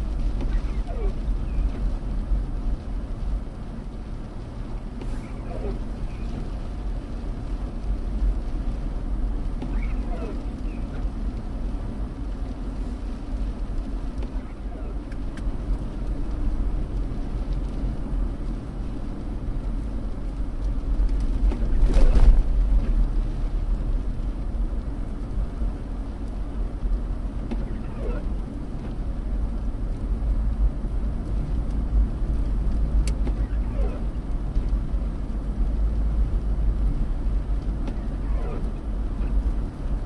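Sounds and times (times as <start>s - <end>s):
car cabin road rumble: 0.0s - 40.0s.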